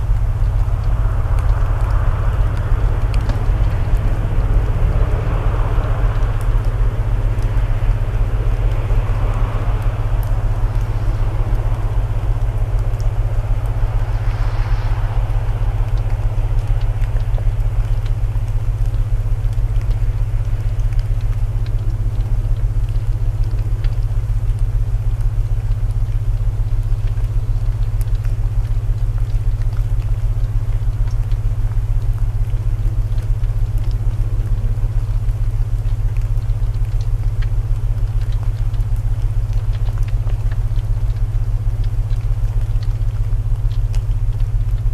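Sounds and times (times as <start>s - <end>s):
rain hiss: 0.0s - 44.9s
wood fire crackling: 0.0s - 44.9s.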